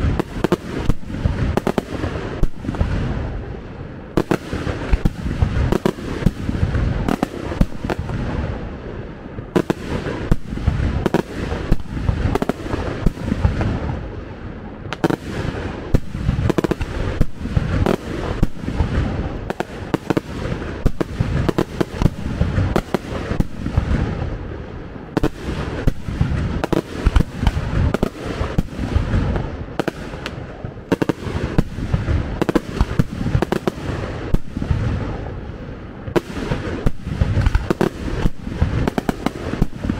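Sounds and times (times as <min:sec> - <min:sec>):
fireworks bangs: 0:00.0 - 0:39.9
low rumble and crackle: 0:00.0 - 0:39.9.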